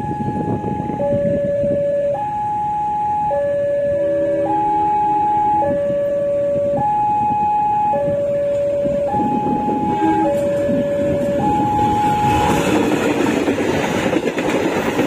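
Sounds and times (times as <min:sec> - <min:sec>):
two-tone crossing alarm: 0:00.0 - 0:13.1.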